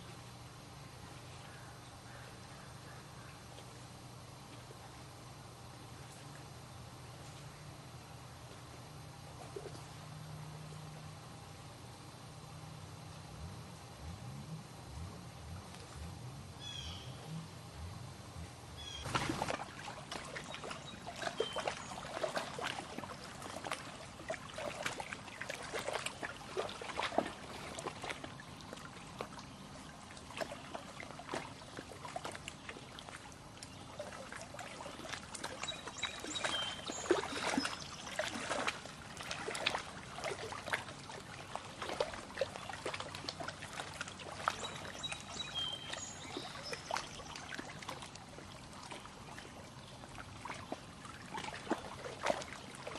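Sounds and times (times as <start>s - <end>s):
lake water lapping at shore: 0.0s - 12.1s, 13.3s - 52.9s.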